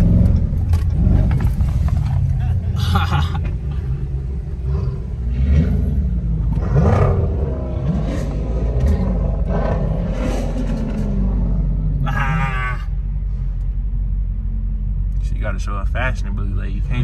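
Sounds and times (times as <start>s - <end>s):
car engine rumbling and revving: 0.0s - 17.0s.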